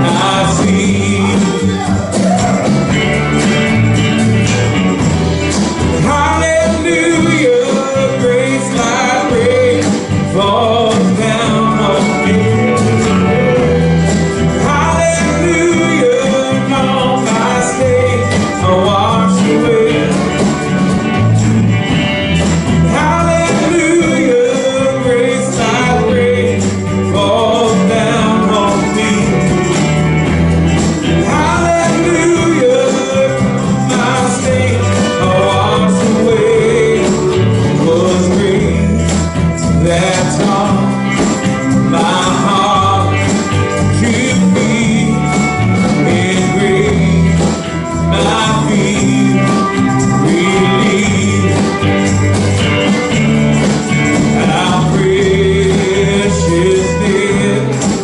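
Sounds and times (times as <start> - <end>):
person singing: 0.0 - 21.4, 22.4 - 58.0
live band playing: 0.0 - 58.0.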